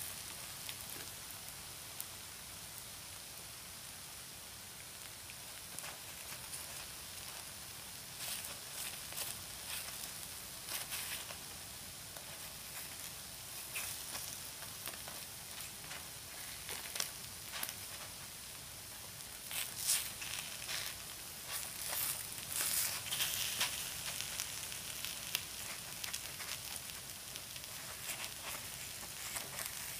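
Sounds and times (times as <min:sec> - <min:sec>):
batter sizzling on hot plate: 0:00.0 - 0:29.9.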